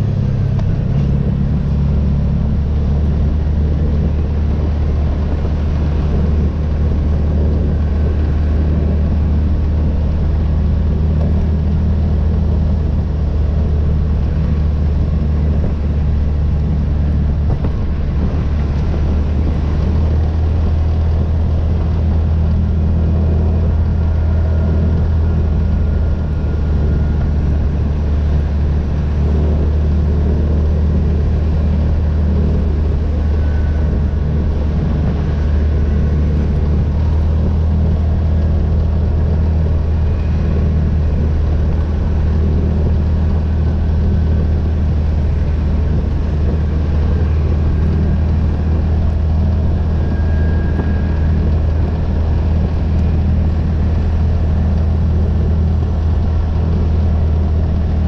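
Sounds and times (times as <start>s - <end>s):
engine droning: 0.0s - 58.0s.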